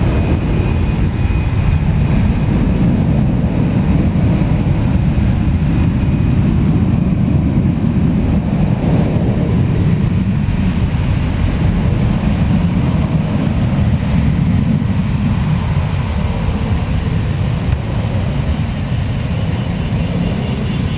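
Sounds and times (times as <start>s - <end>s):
jet engines rumbling: 0.0s - 20.9s.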